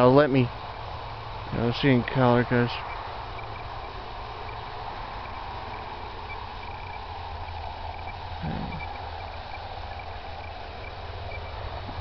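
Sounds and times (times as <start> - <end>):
faint insect chirping: 0.0 - 12.0
steady low rumble: 0.0 - 12.0.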